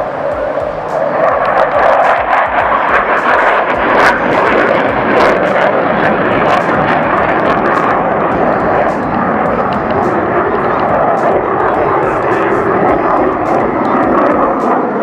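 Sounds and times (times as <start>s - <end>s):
jet engine roaring: 0.0s - 15.0s.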